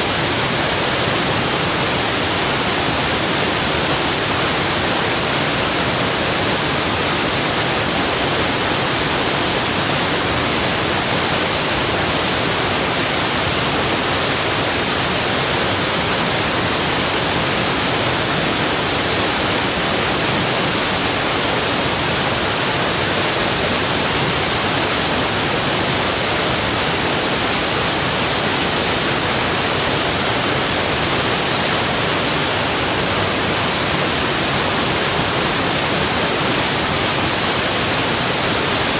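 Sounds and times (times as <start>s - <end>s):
rush of flowing water: 0.0s - 38.9s.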